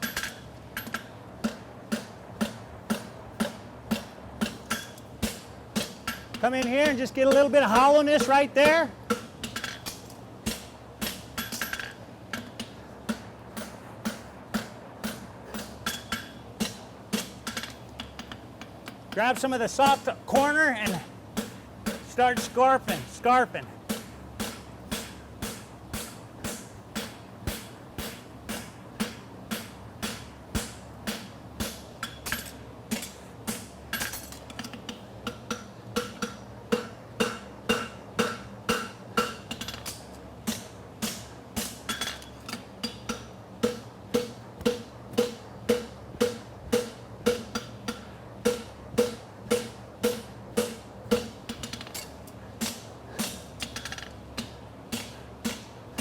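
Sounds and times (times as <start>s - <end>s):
hammer striking steel on anvil: 0.0s - 23.2s, 23.9s - 56.0s.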